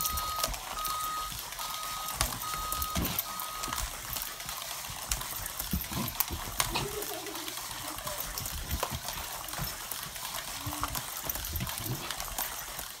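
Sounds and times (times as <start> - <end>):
toy car rattling through plastic tube: 0.0 - 13.0.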